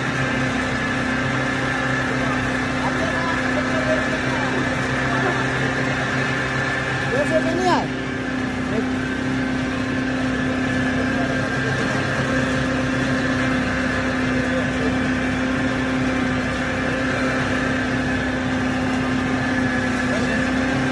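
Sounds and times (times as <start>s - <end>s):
pulveriser grinding wood: 0.0s - 20.9s.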